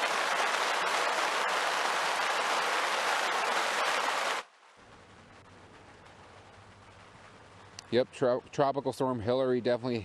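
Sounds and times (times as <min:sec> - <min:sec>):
floodwater rushing: 0:00.0 - 0:09.3
faint steady noise: 0:00.0 - 0:10.0.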